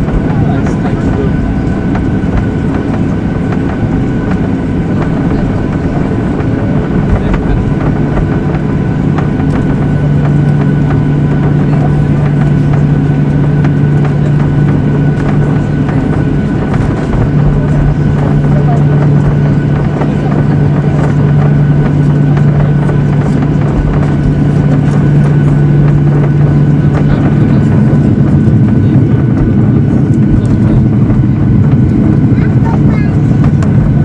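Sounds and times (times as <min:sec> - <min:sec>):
engine hum: 0:00.0 - 0:34.0
jet engine cabin rumble: 0:00.0 - 0:34.0.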